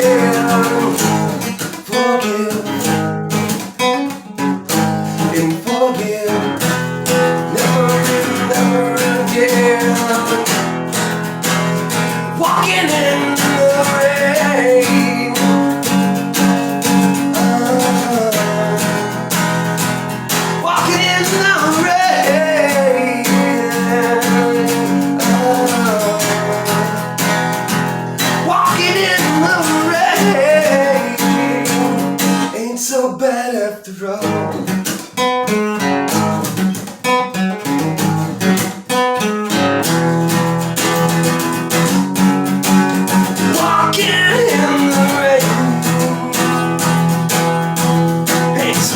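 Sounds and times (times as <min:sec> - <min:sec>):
plucked guitar notes: 0:00.0 - 0:32.6, 0:34.2 - 0:48.9
acoustic guitar strumming: 0:00.0 - 0:48.9.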